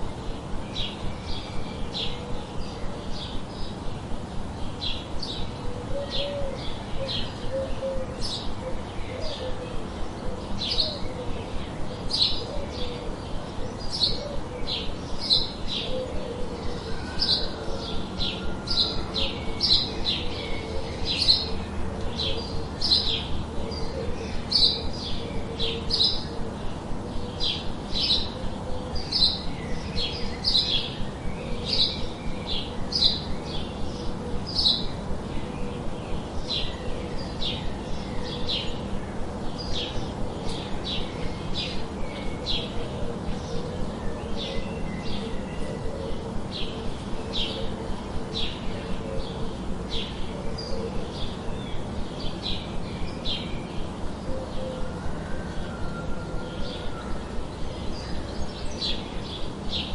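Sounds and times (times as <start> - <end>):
bird chirping: 0.0 - 59.9
low background hum: 0.0 - 59.9.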